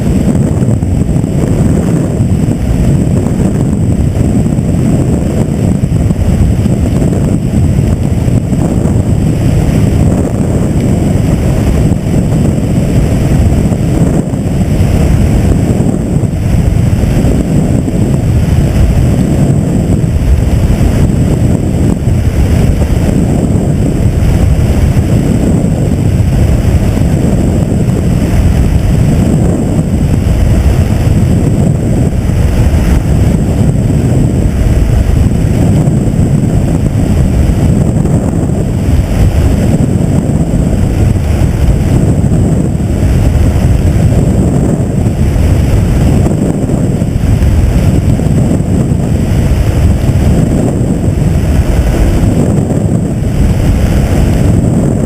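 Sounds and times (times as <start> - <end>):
helicopter rumble: 0.0 - 55.0
wind buffeting microphone: 0.0 - 55.0.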